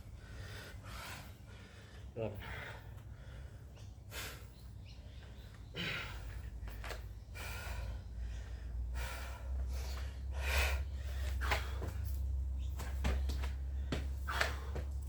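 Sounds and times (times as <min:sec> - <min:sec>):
person breathing hard: 0:00.0 - 0:06.6, 0:07.2 - 0:12.3, 0:13.6 - 0:15.0.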